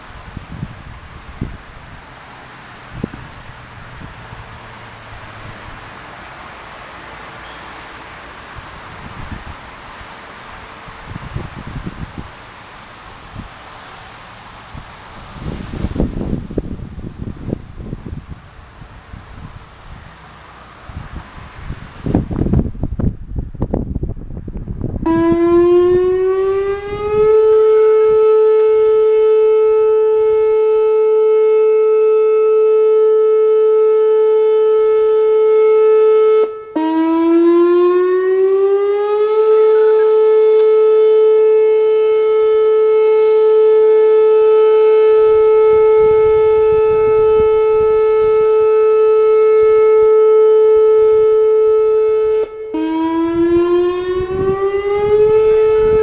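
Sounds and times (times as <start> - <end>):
outdoor warning siren: 0.0 - 56.0.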